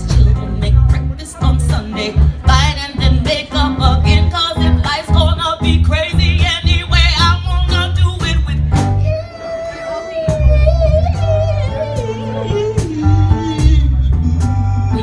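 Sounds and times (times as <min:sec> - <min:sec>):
backing music with bass and drums: 0:00.0 - 0:15.0
woman singing with vibrato: 0:00.0 - 0:15.0.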